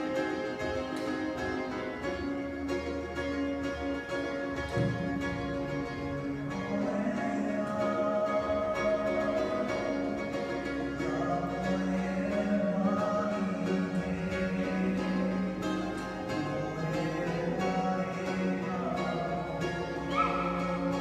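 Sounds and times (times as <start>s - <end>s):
plucked string music: 0.0s - 21.0s.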